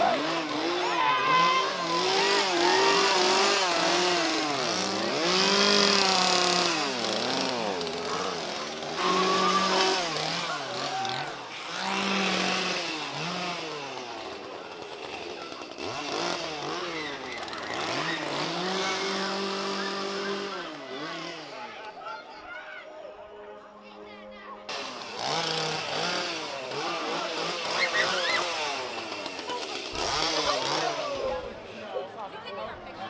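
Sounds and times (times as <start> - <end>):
chainsaw engine revving: 0.0 - 22.0, 24.7 - 31.8.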